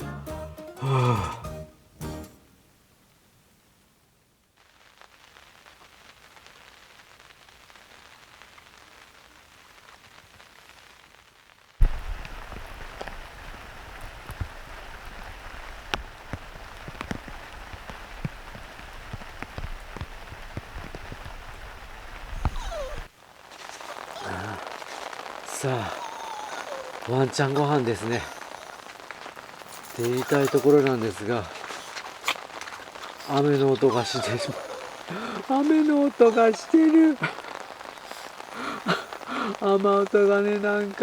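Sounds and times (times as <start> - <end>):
rain on fabric canopy: 0.0 - 1.5, 2.1 - 41.0.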